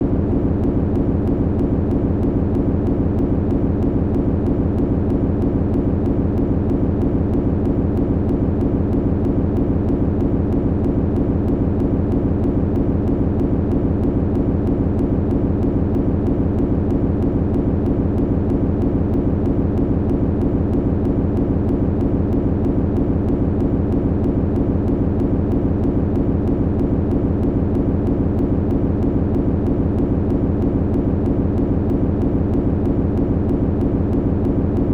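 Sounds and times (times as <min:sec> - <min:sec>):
machinery humming with throb: 0:00.0 - 0:34.9.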